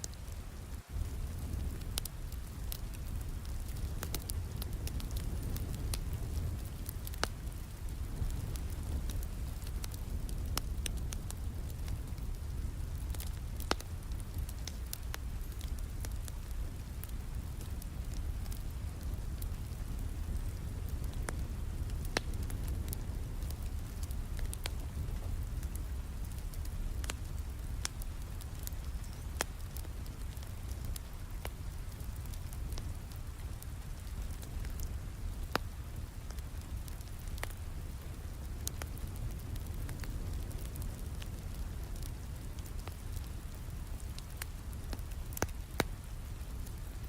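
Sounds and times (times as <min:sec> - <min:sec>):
steady rain: 0:00.0 - 0:47.0
wood fire crackling: 0:00.0 - 0:47.0.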